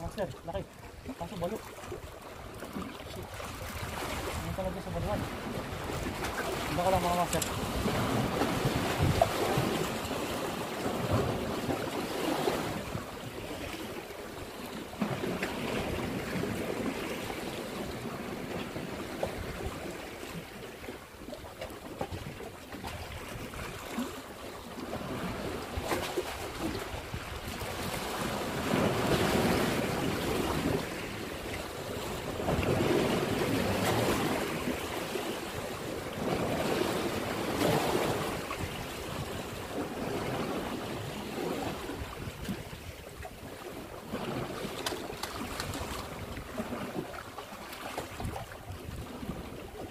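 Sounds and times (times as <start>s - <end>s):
wind on microphone: 0.0s - 20.9s, 24.8s - 47.3s, 47.9s - 49.9s
sea waves splashing: 0.0s - 49.9s.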